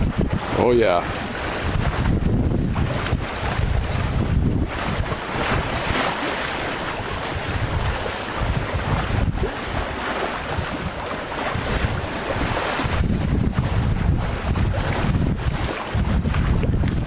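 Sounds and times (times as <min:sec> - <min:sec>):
water rushing past hull: 0:00.0 - 0:17.0
wind on microphone: 0:00.0 - 0:17.0.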